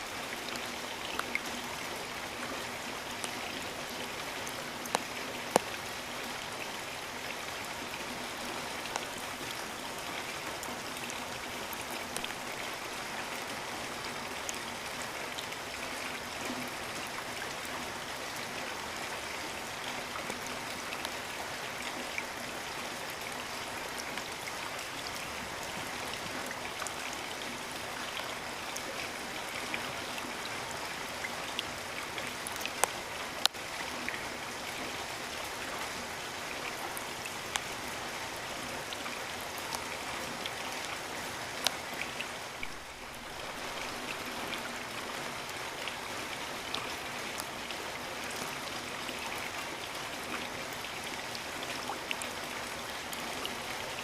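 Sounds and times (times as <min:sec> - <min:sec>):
steady rain hiss: 0:00.0 - 0:54.0
raindrops ticking close by: 0:00.1 - 0:54.0.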